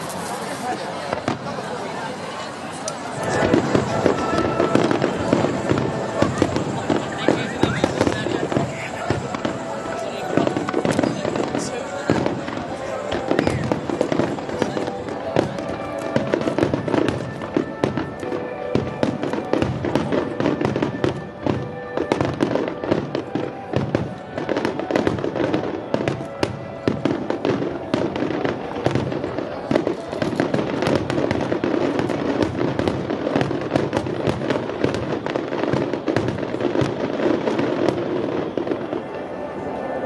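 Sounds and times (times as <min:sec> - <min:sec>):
music: 0:03.2 - 0:40.0.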